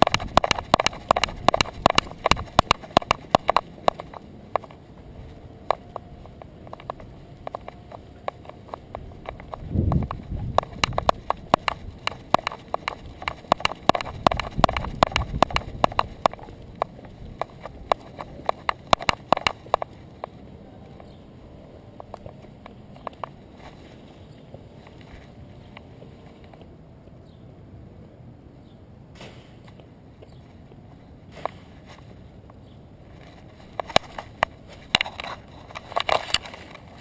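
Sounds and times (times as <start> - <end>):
dog paws clicking and tapping: 0.0 - 21.2, 22.0 - 26.7, 33.1 - 37.0.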